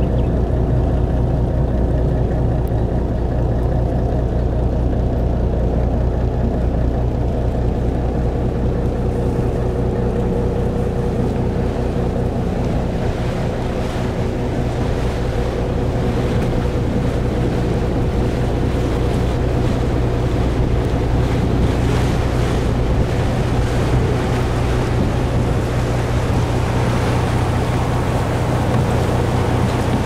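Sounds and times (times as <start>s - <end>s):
boat engine running: 0.0s - 30.0s
water rushing along hull: 0.0s - 30.0s.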